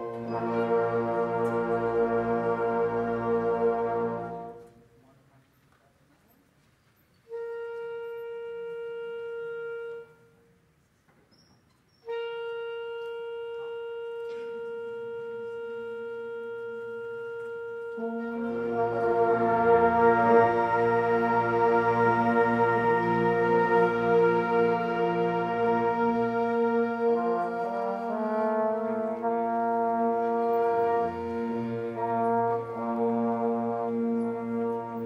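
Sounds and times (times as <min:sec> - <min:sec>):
wind instrument long note: 0:00.0 - 0:04.8, 0:07.3 - 0:10.5, 0:12.0 - 0:35.0.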